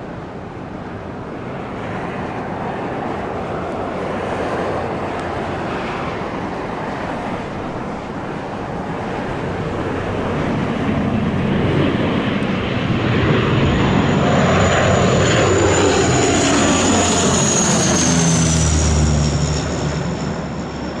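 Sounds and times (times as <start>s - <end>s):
airliner engine noise: 0.0s - 21.0s
jet engine whine: 0.0s - 21.0s.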